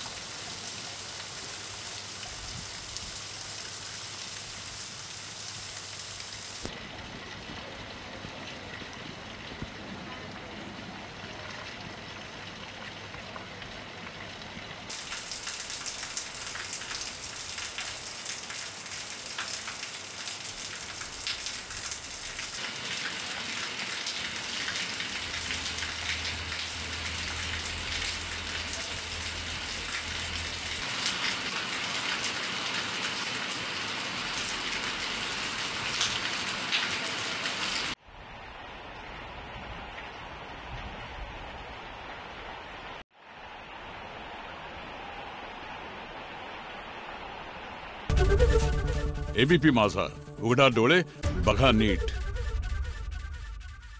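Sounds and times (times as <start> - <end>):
heavy rain falling: 0.0 - 49.2.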